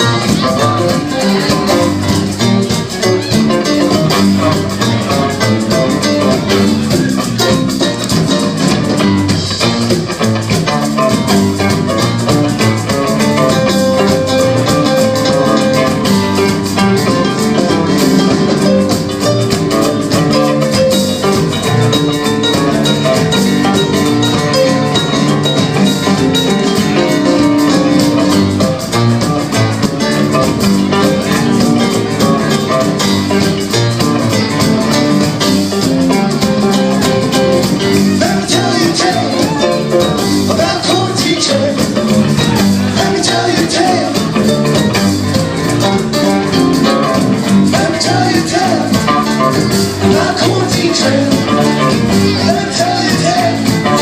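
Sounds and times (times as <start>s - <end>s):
guitar: 0.0s - 54.0s
steady drum beat: 0.0s - 54.0s.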